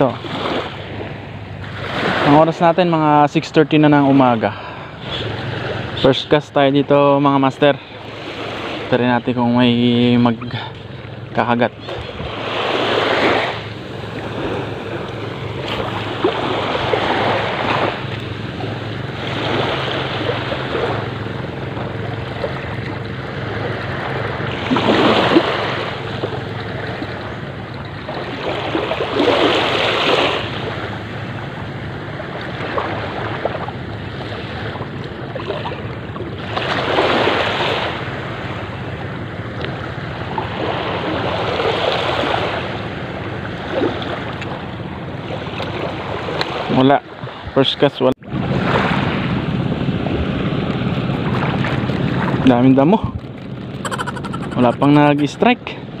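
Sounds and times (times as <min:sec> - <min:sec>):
small waves washing on shore: 0:00.0 - 0:56.0.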